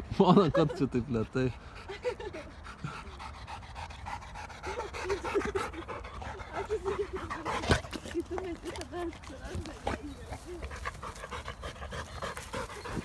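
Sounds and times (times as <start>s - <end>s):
dog panting: 1.0s - 13.0s.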